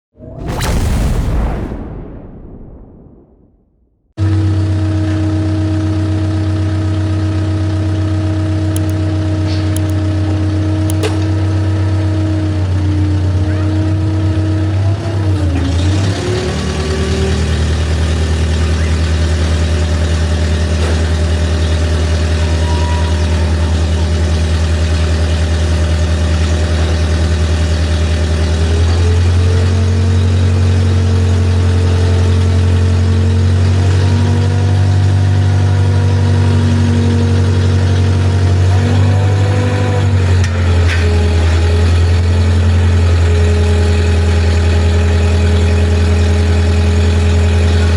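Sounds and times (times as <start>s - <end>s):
heavy diesel engine running: 4.2s - 47.9s.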